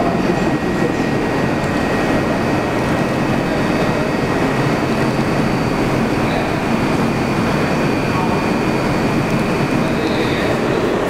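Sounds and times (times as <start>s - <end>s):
subway train rumbling on track: 0.0s - 11.0s.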